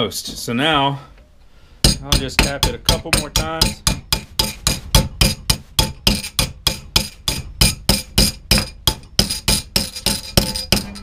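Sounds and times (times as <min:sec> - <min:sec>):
hammer tapping metal strip: 0:01.8 - 0:11.0.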